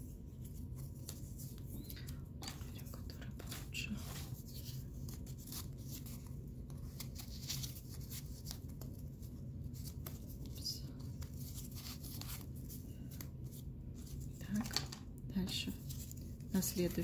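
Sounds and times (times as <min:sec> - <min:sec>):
cardboard strips rustling: 0:00.4 - 0:14.9.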